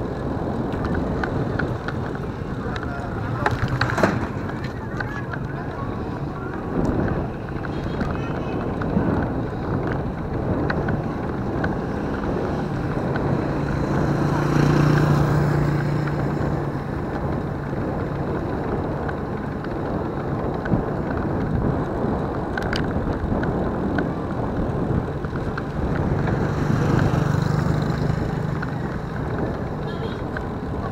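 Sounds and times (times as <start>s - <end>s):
passing motorcycle engine hum: 0.0s - 30.9s
vehicle engine drone: 0.0s - 30.9s
wind on microphone: 0.0s - 30.9s.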